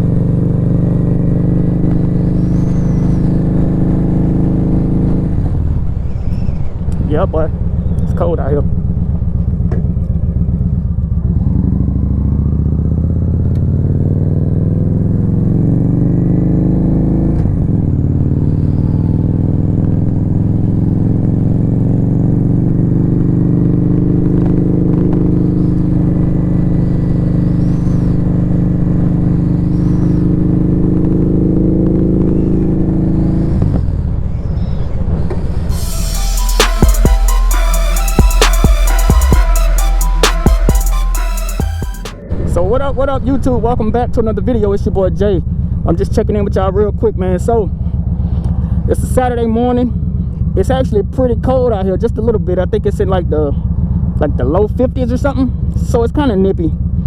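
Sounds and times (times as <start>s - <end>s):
motorcycle engine accelerating: 0.0s - 46.4s, 47.2s - 48.9s, 53.6s - 54.6s.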